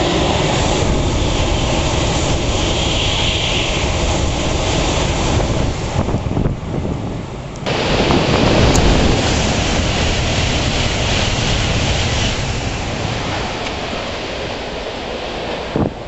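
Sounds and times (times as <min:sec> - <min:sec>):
train rushing past: 0:00.0 - 0:16.0.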